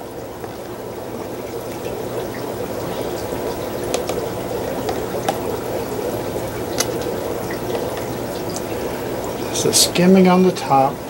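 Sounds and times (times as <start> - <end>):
trickling bubbling water: 0.0 - 11.0.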